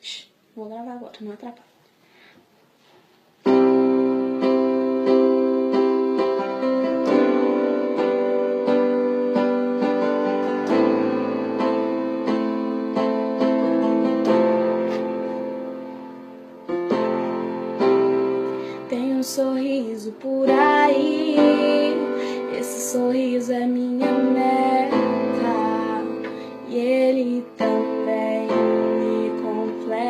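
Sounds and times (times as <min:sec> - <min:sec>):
slow piano music: 0:03.4 - 0:30.0.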